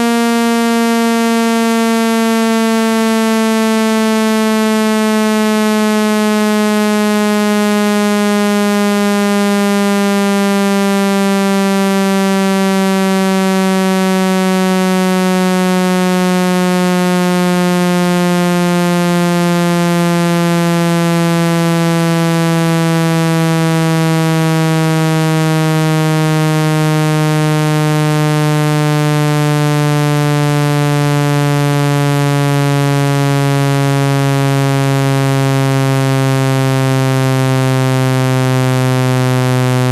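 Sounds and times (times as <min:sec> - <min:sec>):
synthetic buzzing tone gliding down: 0:00.0 - 0:39.9.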